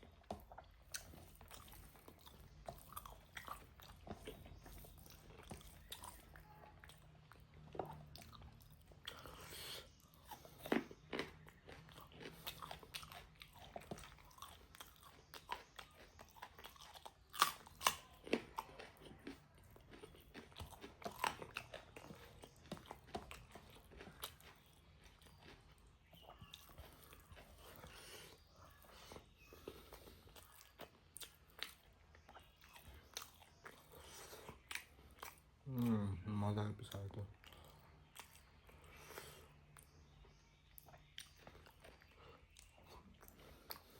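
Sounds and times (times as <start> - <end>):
person chewing food: 0.0 - 36.3, 36.9 - 43.9
crunches of chewing: 0.0 - 43.9.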